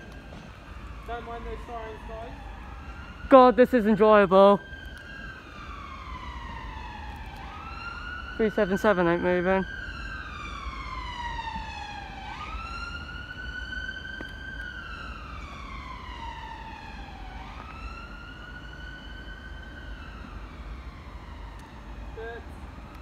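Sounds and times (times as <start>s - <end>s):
emergency siren wailing: 0.0s - 23.0s.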